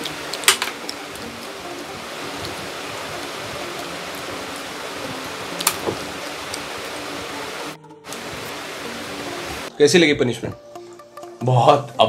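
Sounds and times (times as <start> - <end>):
steady hiss: 0.0 - 9.7.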